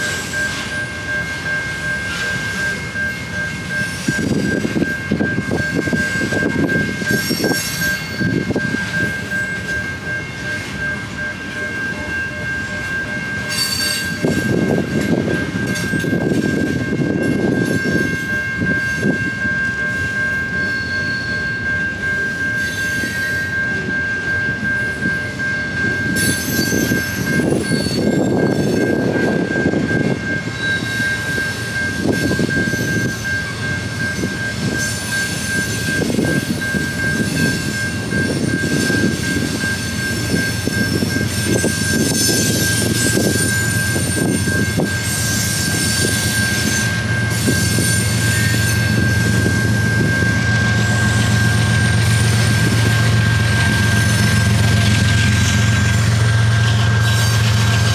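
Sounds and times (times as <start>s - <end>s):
steady high-pitched tone: 0.0s - 57.9s.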